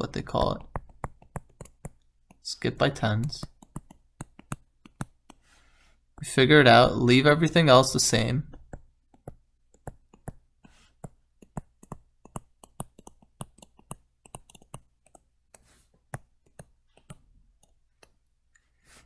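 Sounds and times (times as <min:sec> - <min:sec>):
stylus clicks and taps on screen: 0:00.0 - 0:06.3, 0:08.5 - 0:18.7.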